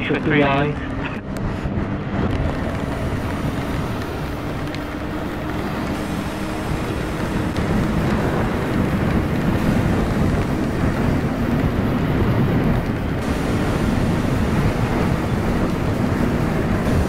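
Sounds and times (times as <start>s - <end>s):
wind rush over microphone: 0.0s - 17.0s
motorcycle engine running: 0.7s - 17.0s.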